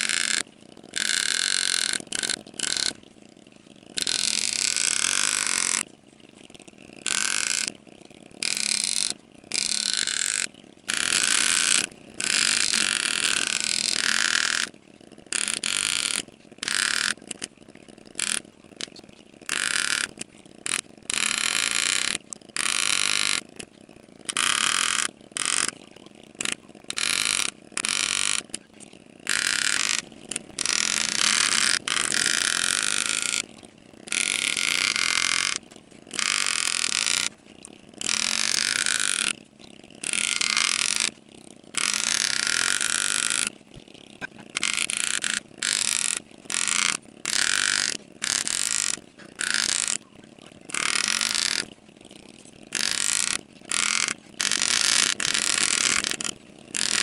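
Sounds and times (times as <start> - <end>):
engraving graver buzzing: 0.0 - 57.0.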